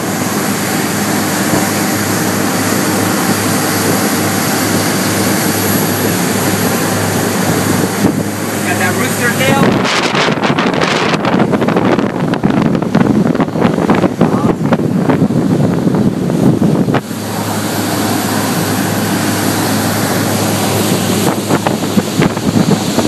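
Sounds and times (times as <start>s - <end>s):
boat engine: 0.0s - 23.0s
rushing water: 0.0s - 23.0s
wind buffeting microphone: 0.0s - 23.0s.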